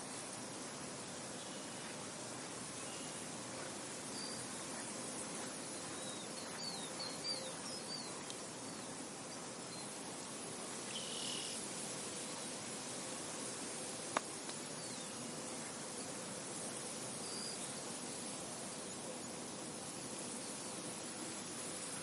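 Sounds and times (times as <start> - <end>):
steady wind: 0.0 - 22.0.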